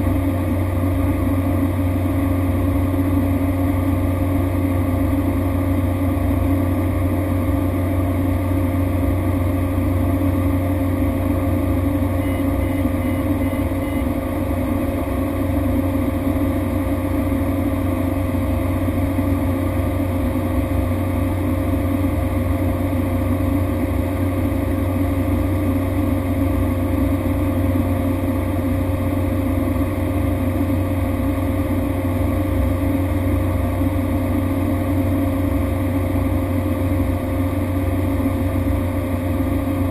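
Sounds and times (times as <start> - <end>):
turboprop aircraft droning: 0.0 - 39.9.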